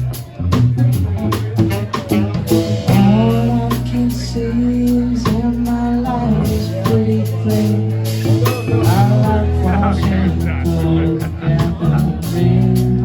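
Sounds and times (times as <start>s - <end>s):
electric bass notes: 0.0s - 13.0s
live rock band playing: 0.0s - 13.0s.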